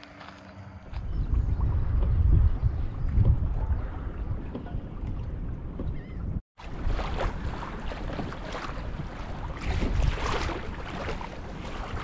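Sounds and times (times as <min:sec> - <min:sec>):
wind buffeting microphone: 0:00.9 - 0:12.0
small waves splashing on hull: 0:01.6 - 0:12.0.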